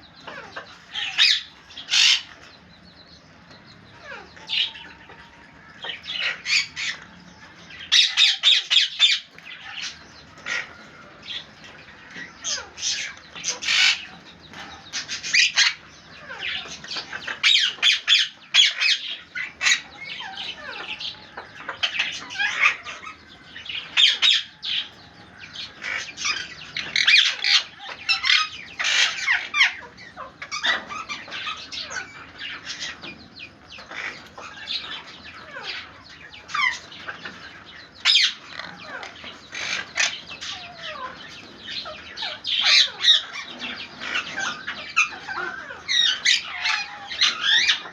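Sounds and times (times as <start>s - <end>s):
parrots squawking and chattering: 0.0s - 47.9s.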